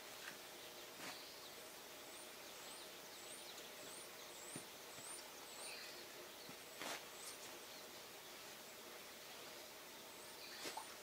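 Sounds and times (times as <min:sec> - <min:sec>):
quiet rural ambience: 0:00.0 - 0:11.0.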